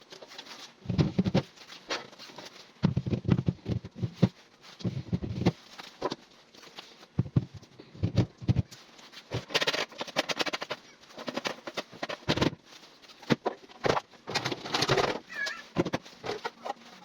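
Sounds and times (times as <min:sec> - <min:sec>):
objects knocking and clicking: 0:00.1 - 0:06.3, 0:07.2 - 0:16.9.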